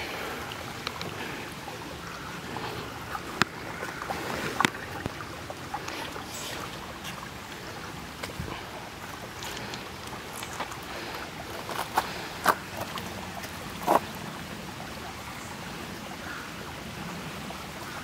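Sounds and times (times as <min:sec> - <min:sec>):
creek water trickling over stones: 0:00.0 - 0:18.0.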